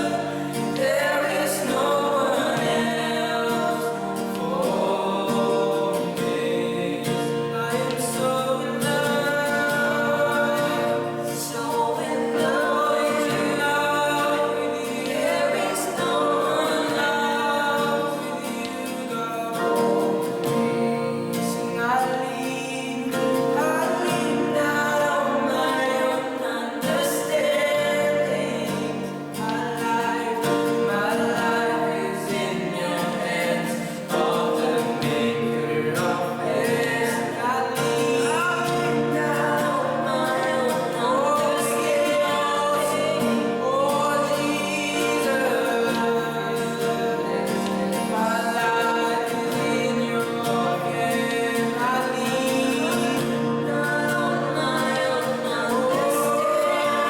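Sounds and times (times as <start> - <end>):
group singing a hymn: 0.0 - 57.0.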